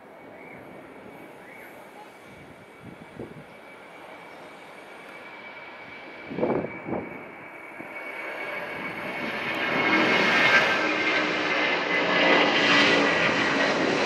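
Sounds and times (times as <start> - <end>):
airliner jet engines: 0.0 - 14.0.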